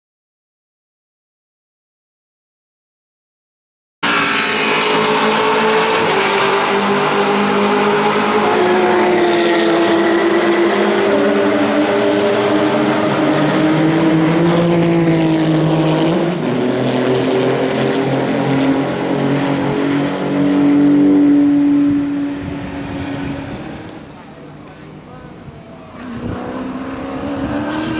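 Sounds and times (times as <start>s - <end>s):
race car engine running loud: 4.0s - 27.9s.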